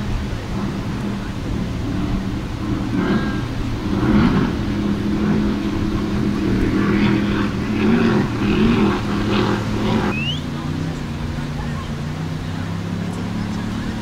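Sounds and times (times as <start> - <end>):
powerboat engines at high speed: 0.0 - 14.0.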